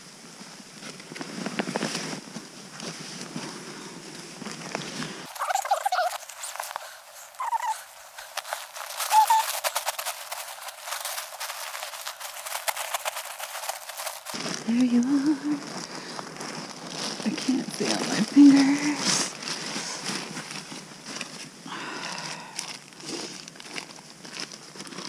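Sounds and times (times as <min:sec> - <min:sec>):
fabric rustling and crinkling: 0:00.0 - 0:25.0.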